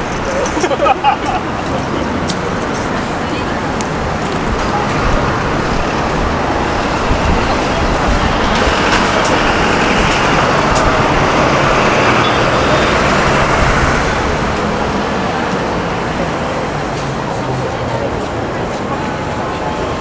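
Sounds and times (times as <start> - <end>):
passing road traffic: 0.0 - 20.0.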